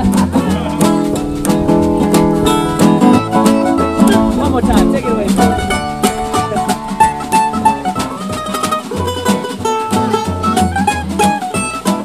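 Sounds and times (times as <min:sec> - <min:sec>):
plucked acoustic guitar: 0:00.0 - 0:12.0
plucked lead string instrument: 0:00.0 - 0:12.0
upright bass: 0:00.0 - 0:12.0.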